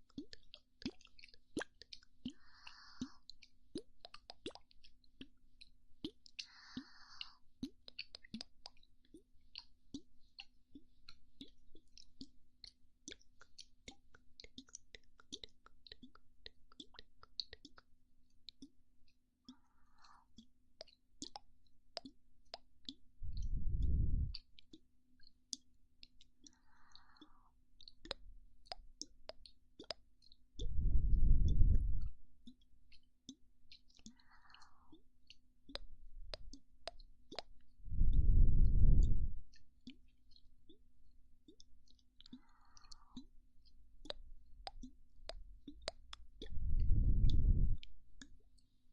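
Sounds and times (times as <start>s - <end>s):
wet mouth clicks and pops: 0.0s - 40.8s, 41.5s - 48.7s.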